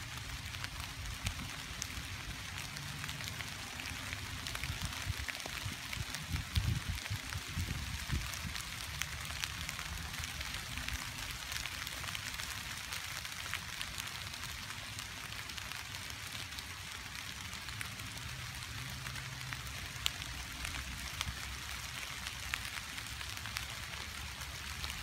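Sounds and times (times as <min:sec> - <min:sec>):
rain falling on leaves: 0:00.0 - 0:25.0.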